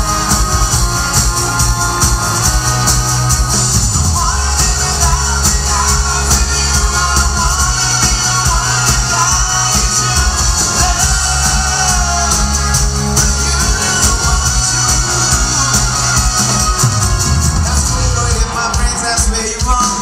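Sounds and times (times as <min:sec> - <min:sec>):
live rock band playing: 0:00.0 - 0:20.0
man singing: 0:00.0 - 0:20.0.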